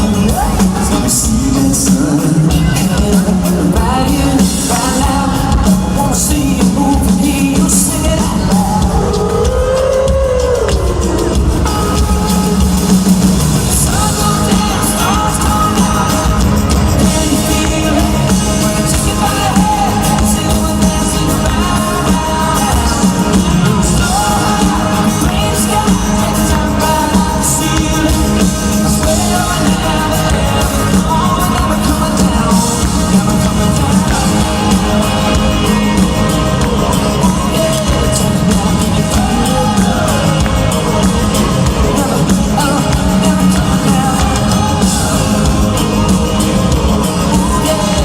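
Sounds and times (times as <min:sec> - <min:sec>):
crowd shouting and yelling: 0:00.0 - 0:48.0
live rock band playing: 0:00.0 - 0:48.0
person singing: 0:00.0 - 0:48.0.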